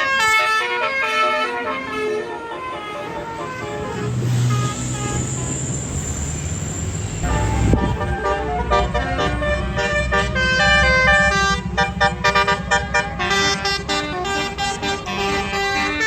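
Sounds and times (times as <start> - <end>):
bus horn playing melody: 0.0 - 5.9, 7.2 - 16.0
bus engine rumble: 0.0 - 16.0.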